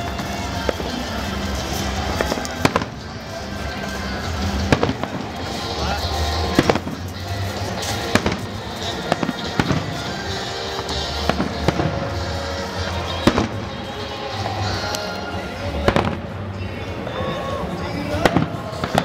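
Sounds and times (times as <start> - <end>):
firework crackle and rumble: 0.0 - 19.0
music playing: 0.0 - 19.0.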